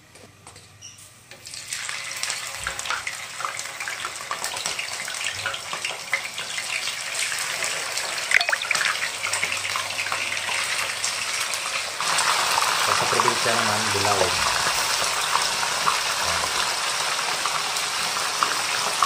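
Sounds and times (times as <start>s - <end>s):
fish sizzling in hot oil: 1.4s - 19.0s.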